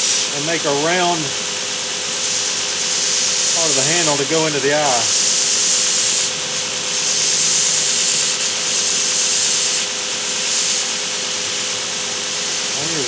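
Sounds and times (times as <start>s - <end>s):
sander motor hum: 0.0s - 13.0s
wood grinding on sander belt: 0.0s - 13.0s.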